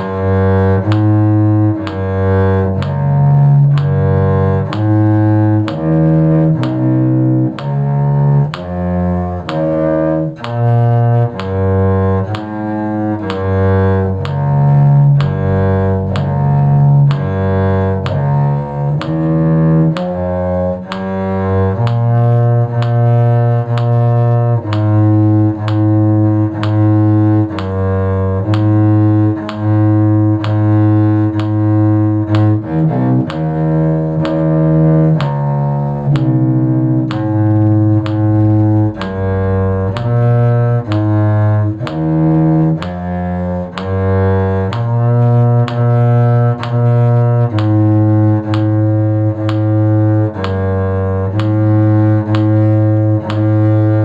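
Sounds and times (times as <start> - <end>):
low bowed string bass line: 0.0 - 54.0.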